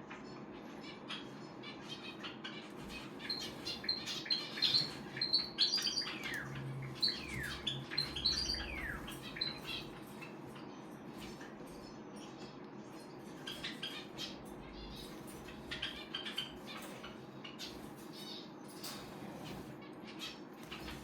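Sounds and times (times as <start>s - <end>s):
fledgling bird chirping: 0.2s - 21.0s.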